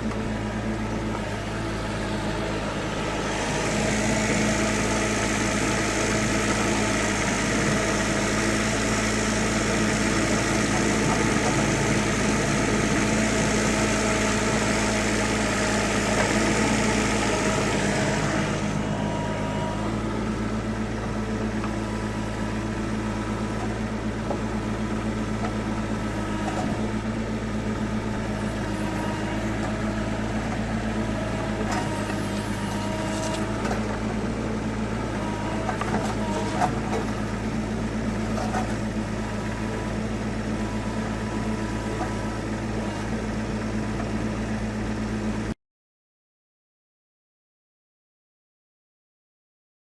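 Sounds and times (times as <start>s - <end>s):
excavator diesel engine running: 0.0s - 45.6s.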